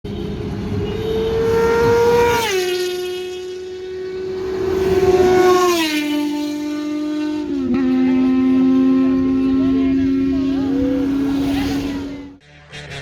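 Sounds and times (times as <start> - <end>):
superbikes passing at speed: 0.1 - 12.4.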